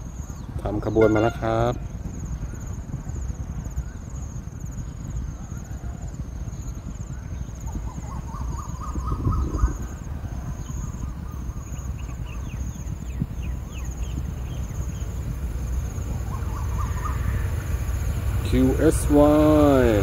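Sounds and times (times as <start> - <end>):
birds chirping: 0.0 - 20.0
insects buzzing: 0.0 - 20.0
wind rumble on microphone: 0.0 - 20.0.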